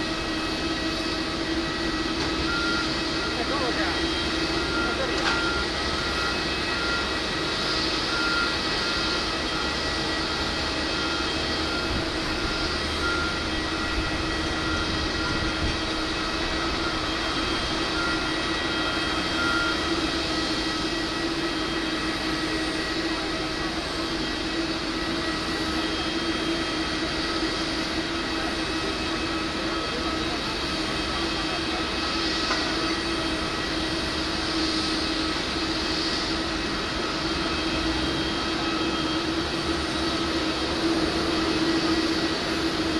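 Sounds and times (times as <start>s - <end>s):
jet turbine whine: 0.0s - 42.9s.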